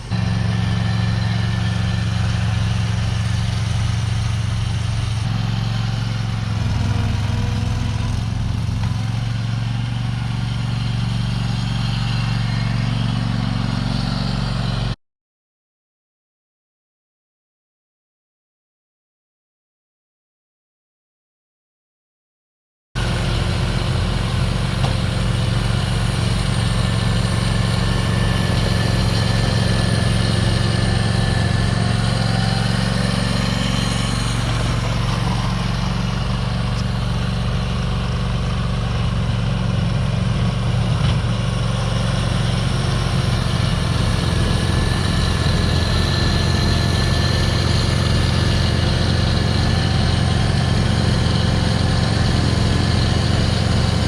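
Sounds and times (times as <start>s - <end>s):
snowblower engine running: 0.0s - 15.0s, 23.0s - 54.0s.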